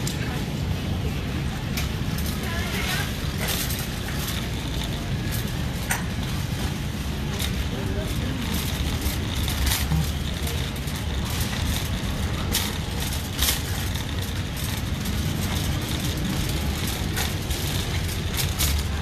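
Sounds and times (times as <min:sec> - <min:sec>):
cart rattles: 0:00.0 - 0:19.0
shopping cart rolling on concrete: 0:00.0 - 0:19.0.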